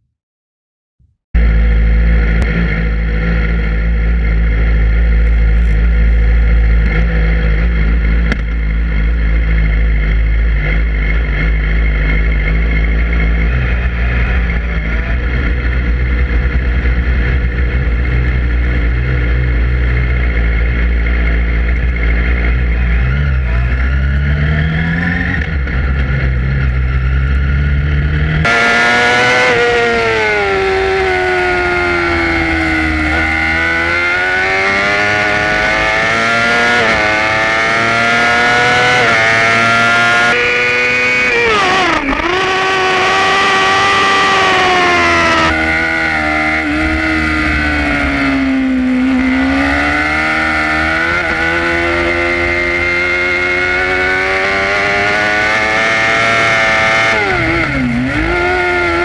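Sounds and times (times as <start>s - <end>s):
motorcycle engine at high revs: 1.4s - 59.0s.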